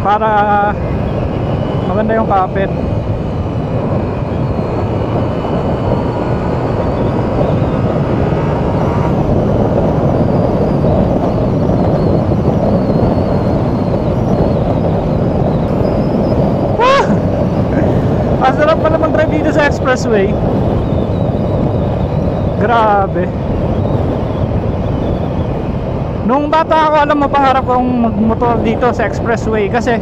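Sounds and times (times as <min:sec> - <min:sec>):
motorcycle engine: 0:00.0 - 0:28.8
road noise: 0:00.0 - 0:30.0
wind rush on microphone: 0:00.0 - 0:30.0.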